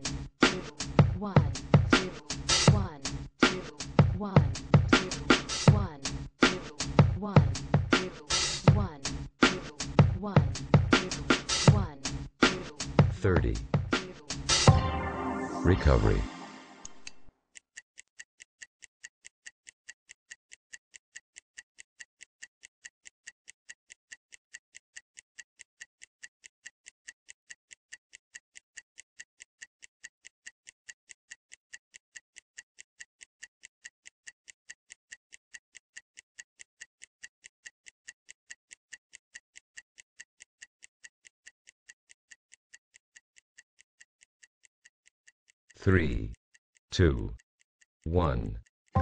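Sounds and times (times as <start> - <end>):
interval timer ticking: 0.0 - 49.0.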